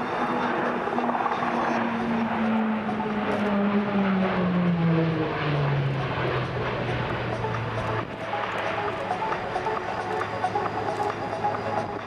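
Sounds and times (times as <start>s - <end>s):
turboprop plane flying past: 0.0s - 12.0s.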